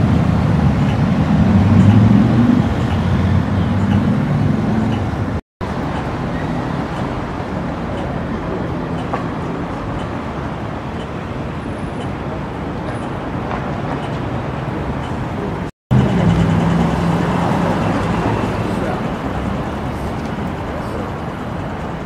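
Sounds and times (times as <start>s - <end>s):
passing car traffic: 0.0s - 22.0s.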